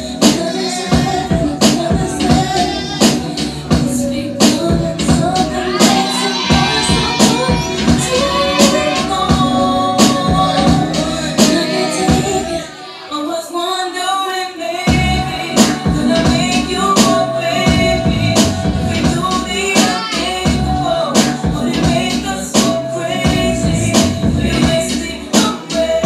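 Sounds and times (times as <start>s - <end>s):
dance music with singing: 0.0s - 26.0s.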